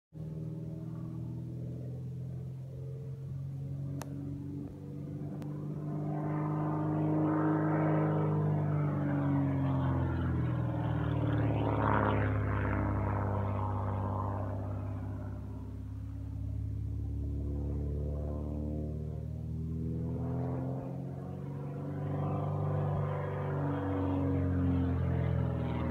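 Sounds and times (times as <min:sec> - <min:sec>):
propeller aircraft engine droning: 0:00.1 - 0:25.9.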